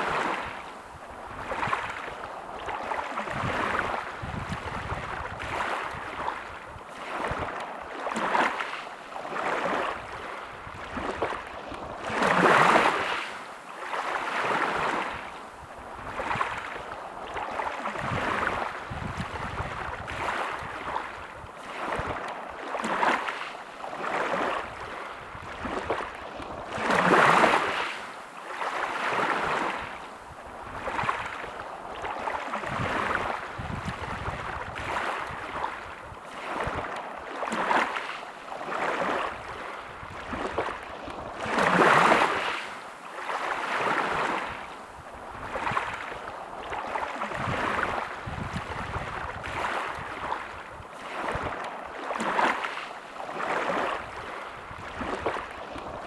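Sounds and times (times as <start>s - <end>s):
larger waves breaking: 0.0s - 56.0s
small waves breaking on beach: 0.0s - 56.0s.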